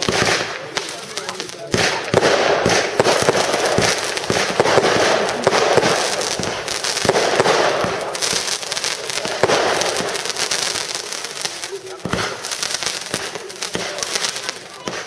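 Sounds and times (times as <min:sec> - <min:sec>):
fireworks crackling and bangs: 0:00.0 - 0:15.0.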